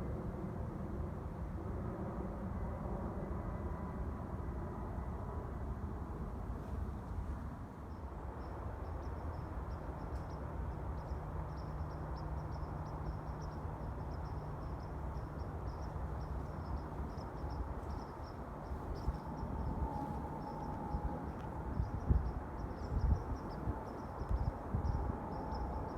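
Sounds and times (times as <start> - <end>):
distant jet airliner rumble: 0.0 - 25.9.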